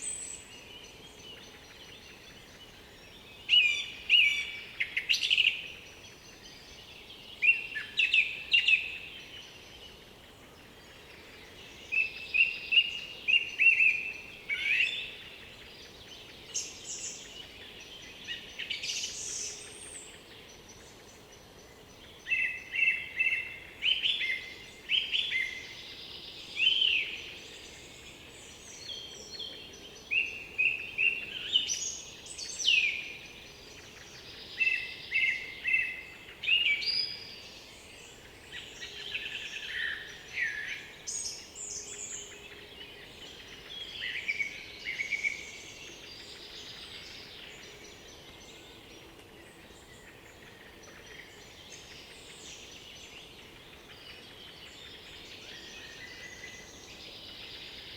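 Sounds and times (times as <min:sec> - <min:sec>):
faint background hiss: 0:00.0 - 0:57.9
songbirds chirping and trilling: 0:00.0 - 0:57.9.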